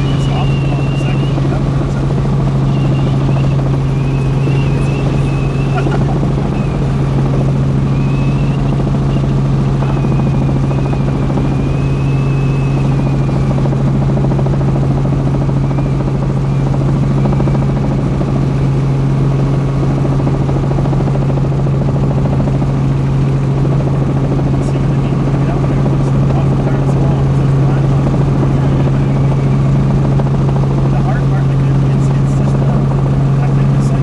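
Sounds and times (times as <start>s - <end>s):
helicopter rotor drone: 0.0s - 34.0s.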